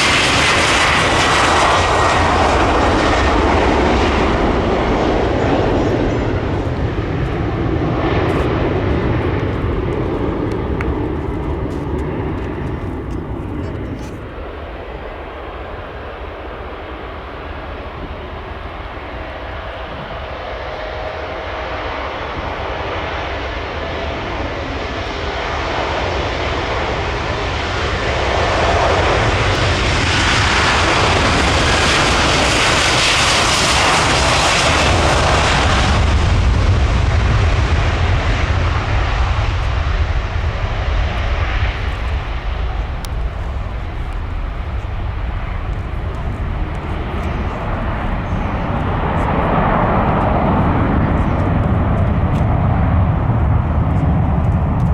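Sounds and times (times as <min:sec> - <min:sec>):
jet engines at takeoff: 0:00.0 - 0:54.9.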